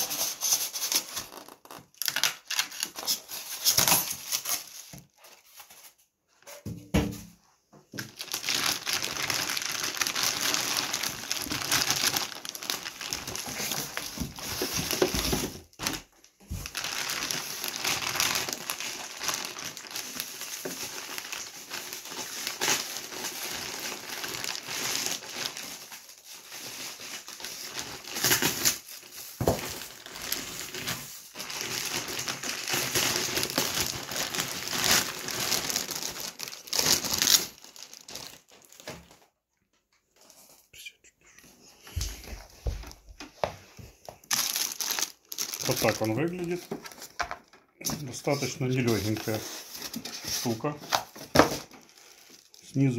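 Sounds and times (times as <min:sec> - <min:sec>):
plastic bag crinkling and rustling: 0:00.0 - 0:06.5, 0:07.9 - 0:39.4, 0:41.8 - 0:52.9.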